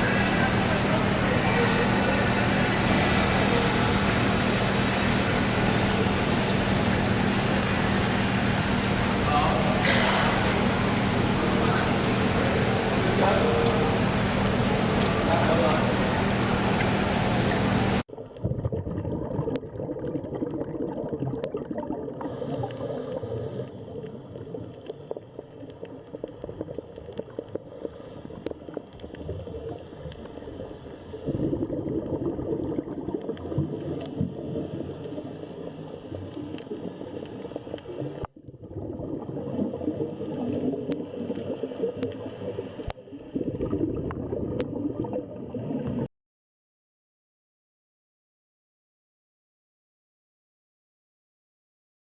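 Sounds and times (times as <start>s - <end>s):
underwater gurgling water: 0.0s - 46.1s.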